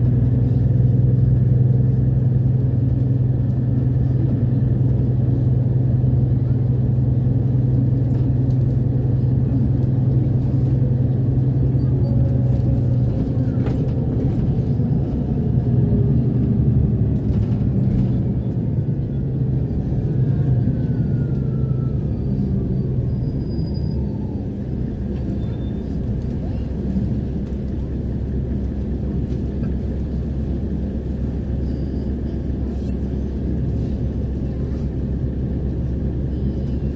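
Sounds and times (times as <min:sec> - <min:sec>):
bus engine drone: 0:00.0 - 0:36.9
road rumble: 0:00.0 - 0:36.9.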